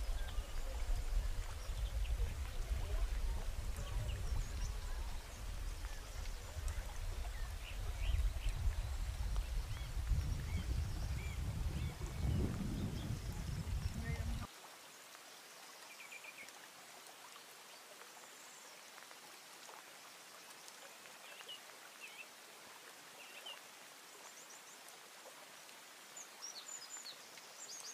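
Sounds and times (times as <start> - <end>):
soft steady hiss: 0.0 - 27.9.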